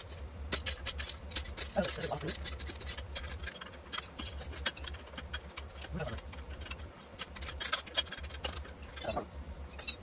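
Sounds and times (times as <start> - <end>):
hand tools clicking on metal: 0.0 - 10.0.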